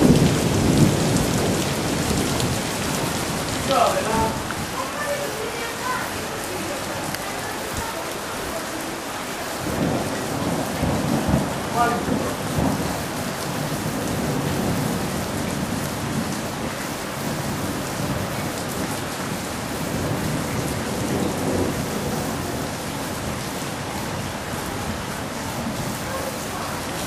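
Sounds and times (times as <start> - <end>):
low thunder rumbling: 0.0 - 4.8, 9.5 - 27.0
heavy rain pouring: 0.0 - 27.0.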